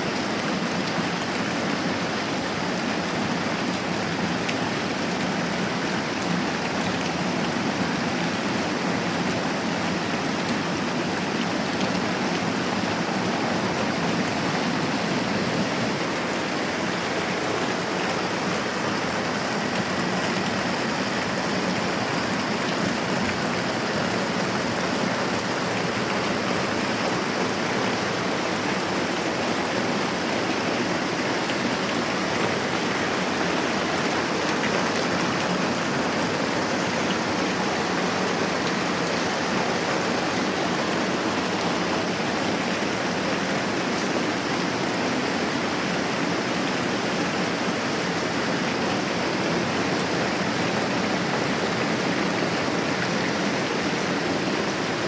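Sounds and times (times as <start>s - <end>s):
moderate rain falling: 0.0s - 55.0s.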